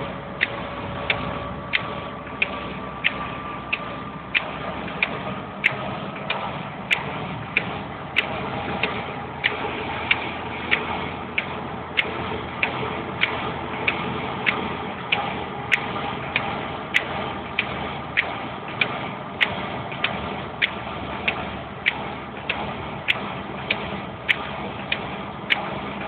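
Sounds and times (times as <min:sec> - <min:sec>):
road noise: 0:00.0 - 0:26.0
sharp clicking in car cabin: 0:00.0 - 0:26.0.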